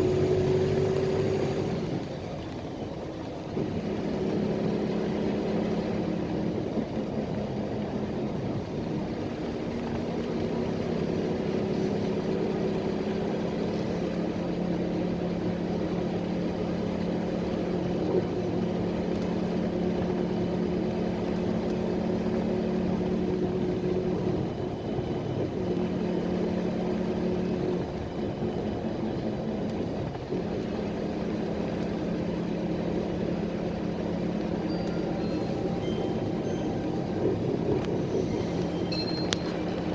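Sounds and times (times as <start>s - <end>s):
bus engine running: 0.0s - 39.9s
road noise: 0.0s - 39.9s.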